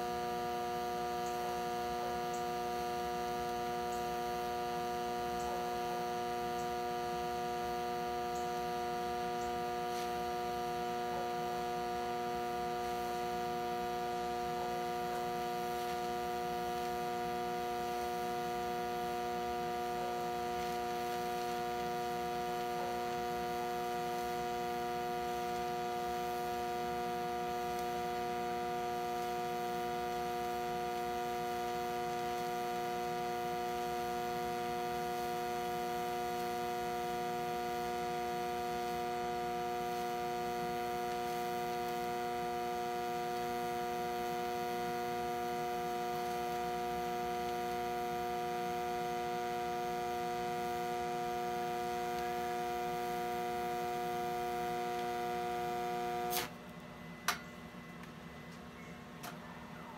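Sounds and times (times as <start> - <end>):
welding arc hum: 0.0 - 57.4.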